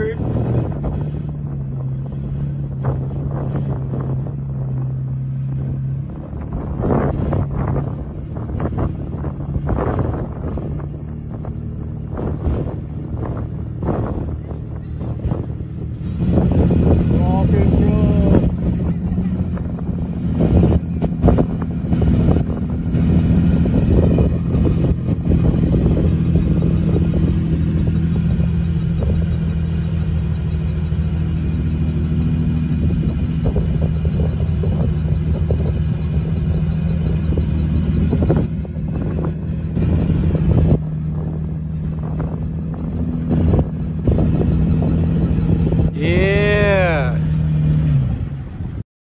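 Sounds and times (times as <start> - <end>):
tires spinning in soft sand: 0.0 - 48.8
truck engine running under load: 0.0 - 48.8.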